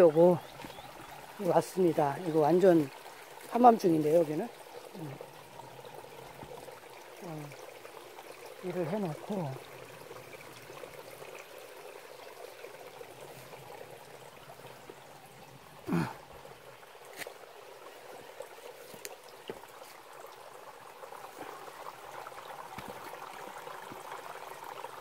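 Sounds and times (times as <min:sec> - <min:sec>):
stream flowing over stones: 0:00.0 - 0:25.0.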